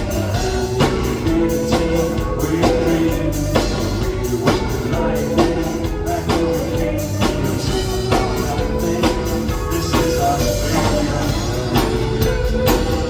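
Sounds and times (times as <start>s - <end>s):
drum beat: 0.0s - 13.0s
guitar and keyboard chords: 0.0s - 13.0s
live rock band playing: 0.0s - 13.0s.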